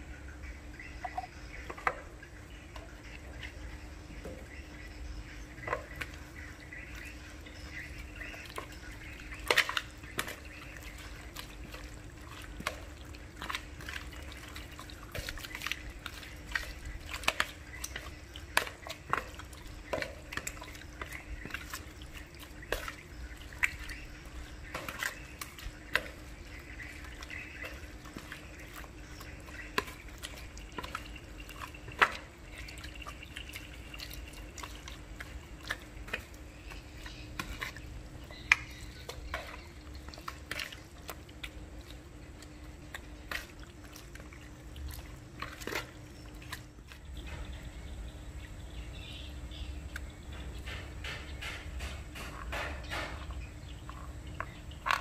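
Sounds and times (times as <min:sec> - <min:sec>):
faint steady hum: 0:00.0 - 0:55.0
wet squelching squid: 0:02.6 - 0:47.2.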